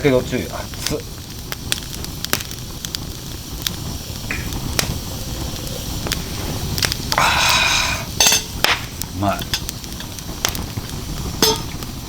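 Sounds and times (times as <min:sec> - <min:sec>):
low fire rumble: 0:00.0 - 0:12.0
wood fire crackling and popping: 0:00.0 - 0:12.0.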